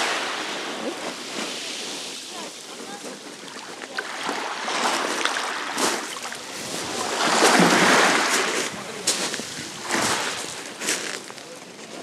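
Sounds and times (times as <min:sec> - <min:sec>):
small waves washing over pebbles: 0:00.0 - 0:12.0.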